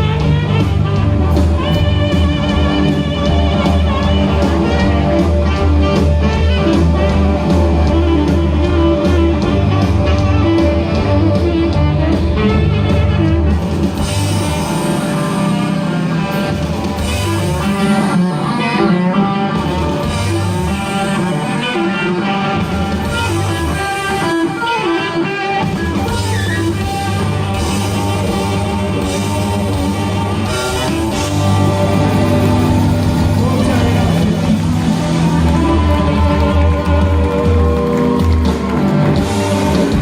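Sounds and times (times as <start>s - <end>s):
bass guitar: 0.0s - 40.0s
drum kit: 0.0s - 40.0s
electric guitar: 0.0s - 40.0s.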